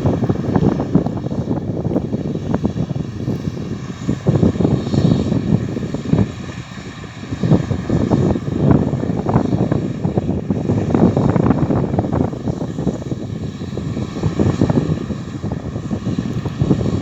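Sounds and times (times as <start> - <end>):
harvest machinery droning: 0.0 - 17.0
wind buffeting microphone: 0.0 - 17.0.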